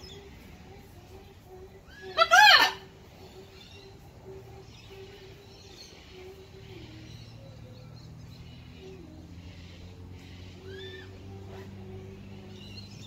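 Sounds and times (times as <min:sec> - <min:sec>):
low steady hum: 0:00.0 - 0:13.0
wild bird chirps and calls: 0:00.0 - 0:13.0.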